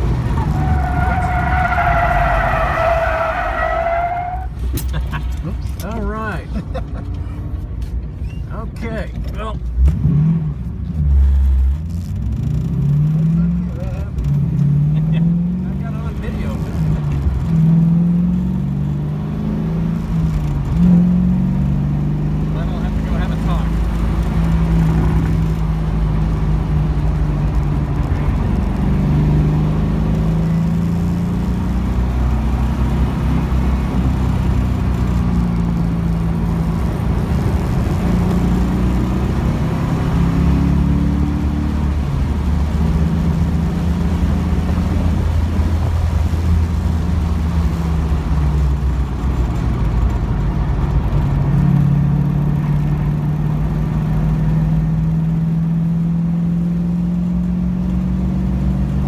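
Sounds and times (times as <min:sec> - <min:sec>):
car engine accelerating and slowing: 0:00.0 - 0:59.0.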